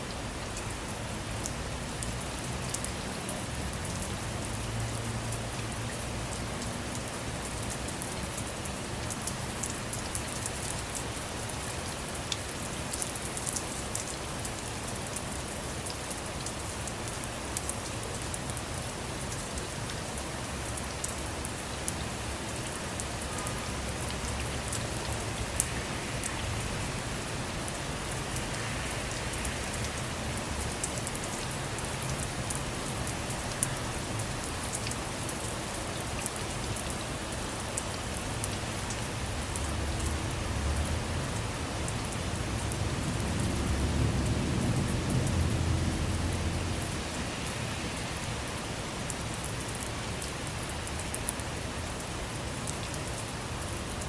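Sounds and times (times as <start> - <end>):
rain falling on a car: 0.0 - 54.0.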